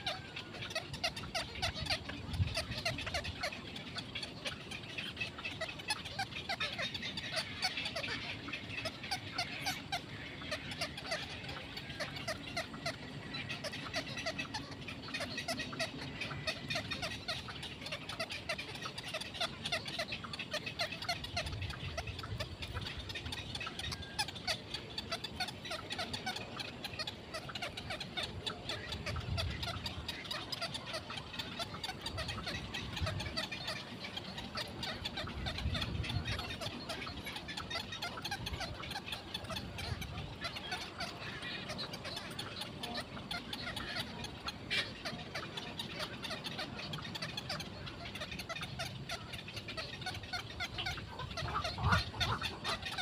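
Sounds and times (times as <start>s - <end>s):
chorus of rapid bird calls: 0.0s - 53.0s.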